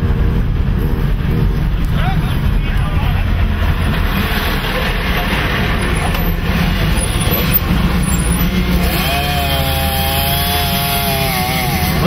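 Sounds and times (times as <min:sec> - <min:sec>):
vehicle road noise rumble: 0:00.0 - 0:12.0.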